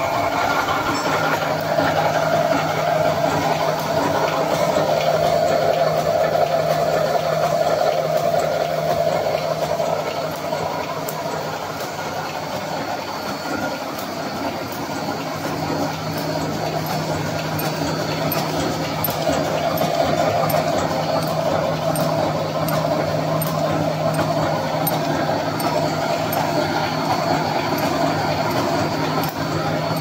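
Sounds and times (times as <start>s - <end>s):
wire mesh welding machine running: 0.0s - 30.0s.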